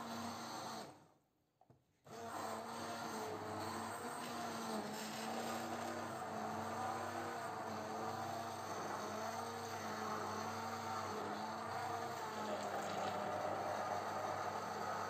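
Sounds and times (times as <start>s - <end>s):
immersion blender motor hum: 2.1s - 15.0s.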